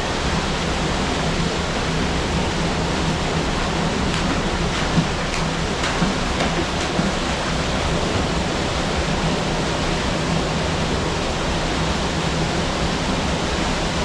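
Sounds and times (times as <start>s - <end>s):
falling water roaring: 0.9s - 13.4s.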